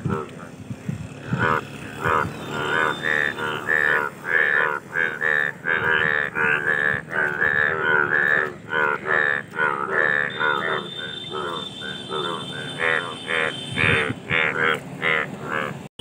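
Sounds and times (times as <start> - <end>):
bullfrogs croaking in chorus: 0.0 - 15.9.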